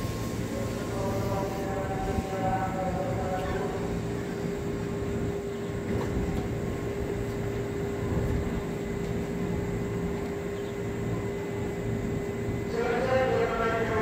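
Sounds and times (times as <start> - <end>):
electric train equipment humming: 0.0 - 14.0.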